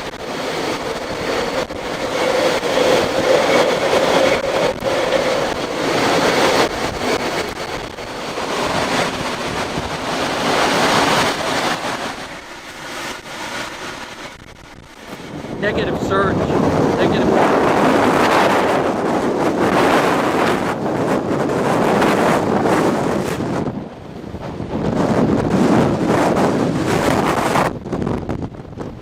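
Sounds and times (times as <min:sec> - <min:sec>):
hurricane wind and rain: 0:00.0 - 0:29.0.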